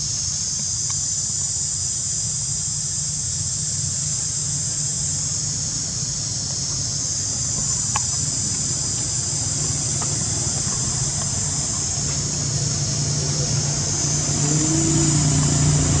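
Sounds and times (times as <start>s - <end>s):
insects droning: 0.0s - 16.0s
vehicle engine humming: 0.0s - 16.0s.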